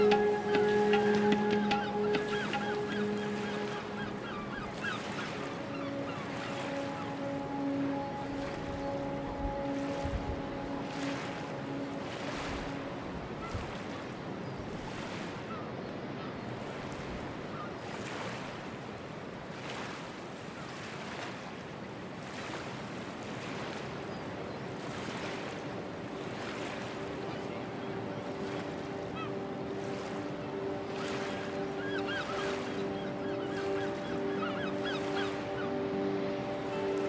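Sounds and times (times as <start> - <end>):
small waves breaking on sand: 0.0 - 37.0.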